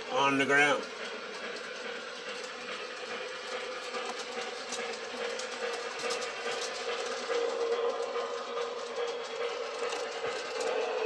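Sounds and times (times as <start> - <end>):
model train motor whirring: 0.0 - 11.0.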